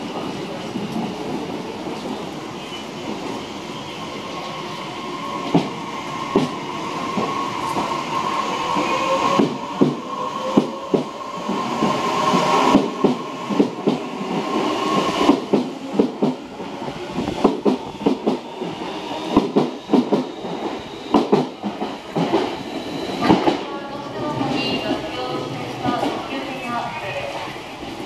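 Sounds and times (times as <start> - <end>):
electric train whine: 0.0 - 28.0.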